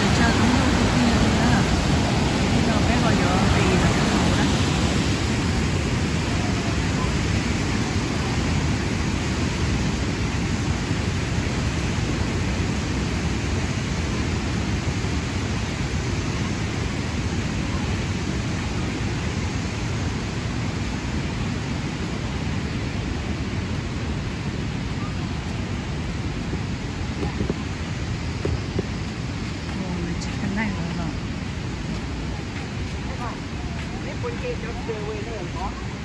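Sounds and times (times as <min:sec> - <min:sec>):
waterfall and river rapids: 0:00.0 - 0:36.0.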